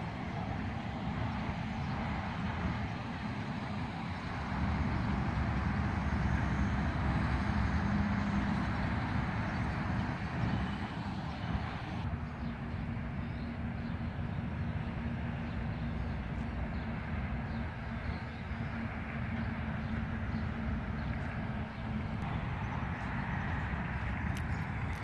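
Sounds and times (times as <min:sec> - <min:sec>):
passing cars: 0:00.0 - 0:25.0.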